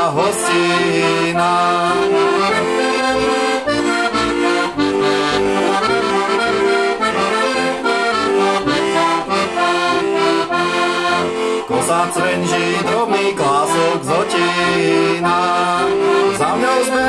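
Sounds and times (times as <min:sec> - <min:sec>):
button accordion playing folk tune: 0:00.0 - 0:17.0.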